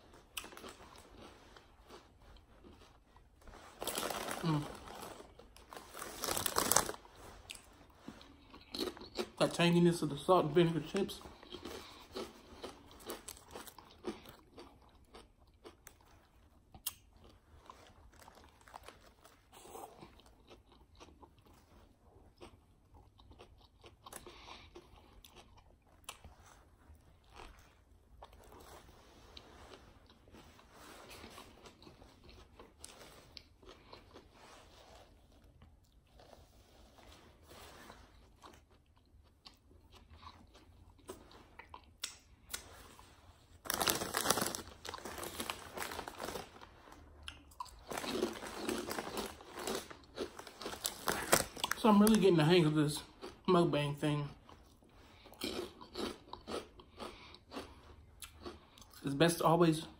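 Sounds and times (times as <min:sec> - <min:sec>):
person chewing sandwich: 0:00.0 - 0:09.6, 0:10.9 - 0:51.8, 0:54.4 - 0:59.0.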